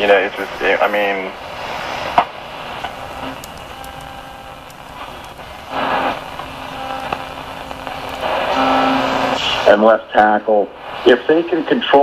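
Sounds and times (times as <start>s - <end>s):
radio tuning click: 0.0s - 9.8s
faint steady tones: 0.0s - 12.0s
radio static hiss: 0.0s - 12.0s
snatch of radio broadcast: 0.0s - 12.0s.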